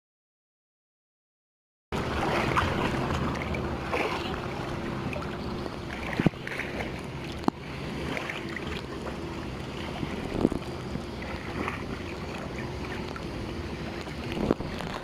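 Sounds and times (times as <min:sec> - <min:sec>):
boat engine humming: 0:01.9 - 0:15.0
water noise: 0:01.9 - 0:15.0
wind: 0:01.9 - 0:15.0.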